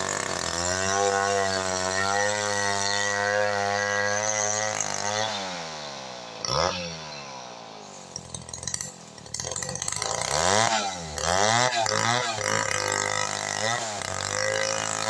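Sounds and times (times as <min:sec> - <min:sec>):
chainsaw engine revving and idling: 0:00.0 - 0:15.0.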